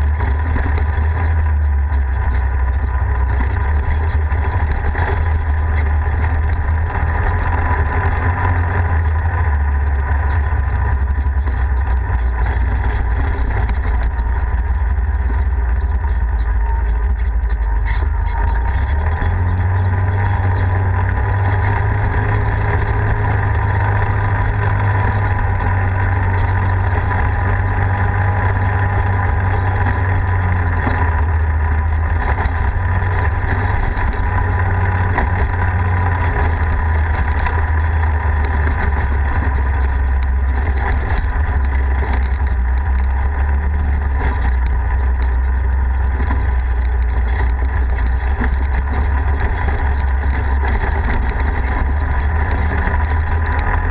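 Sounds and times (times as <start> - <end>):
vehicle engine droning: 0.0 - 53.9.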